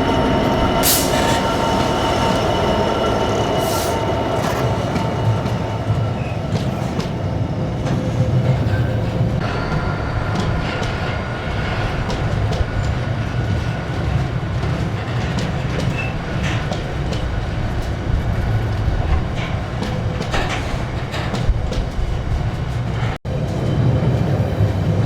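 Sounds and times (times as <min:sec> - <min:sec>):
train wheels clicking over rail joints: 0:00.0 - 0:23.8
freight train rumbling: 0:00.0 - 0:25.0.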